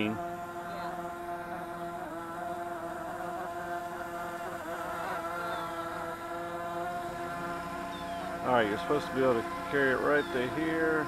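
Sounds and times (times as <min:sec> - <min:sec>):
model aircraft propellers buzzing: 0:00.0 - 0:11.0.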